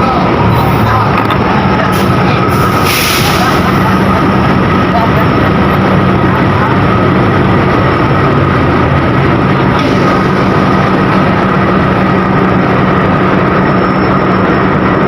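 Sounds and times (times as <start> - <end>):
diesel locomotive engine rumble: 0.0 - 15.0
thin steady whine: 0.0 - 15.0.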